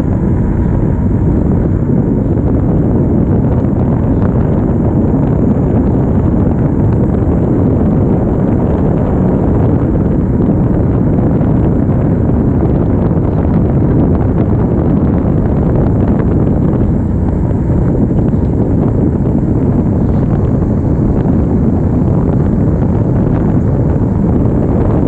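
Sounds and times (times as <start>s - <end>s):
tires rolling on asphalt: 0.0s - 25.0s
wind rush: 0.0s - 25.0s.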